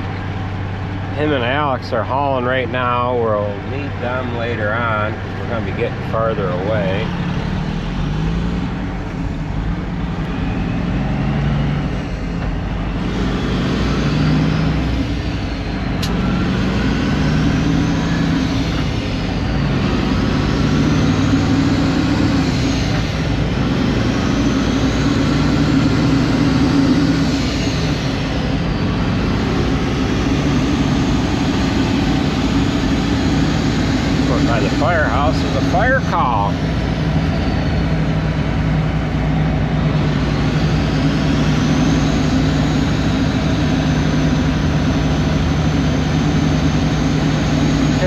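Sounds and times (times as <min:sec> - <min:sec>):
truck engine and road noise: 0:00.0 - 0:48.0.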